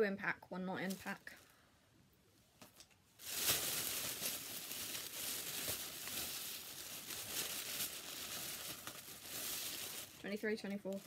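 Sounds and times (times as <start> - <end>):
plastic packaging crinkling: 0.8 - 1.5, 2.6 - 11.0.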